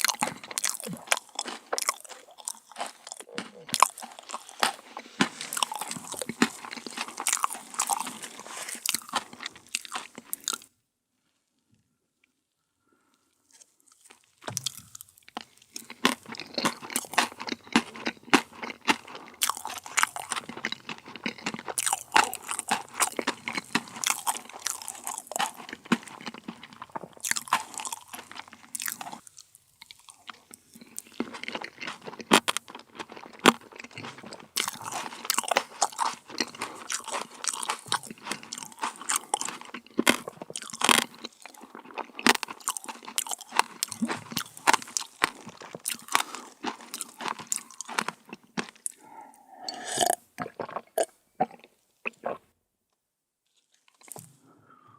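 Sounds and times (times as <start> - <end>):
crunchy bites and chewing: 0.0 - 10.7, 13.5 - 52.4, 53.5 - 54.8.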